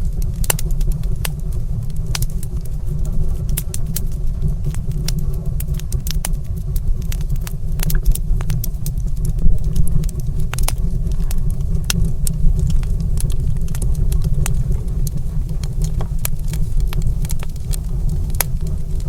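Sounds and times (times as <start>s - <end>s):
low rumble of fire: 0.0s - 19.0s
wood fire crackling and popping: 0.0s - 19.0s.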